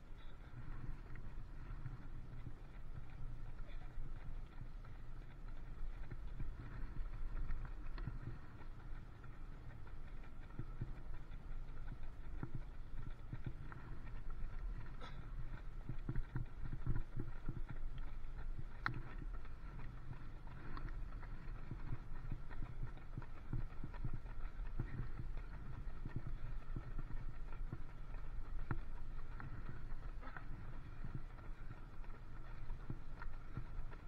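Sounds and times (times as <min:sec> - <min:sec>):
bicycle rolling rumble: 0:00.0 - 0:34.0.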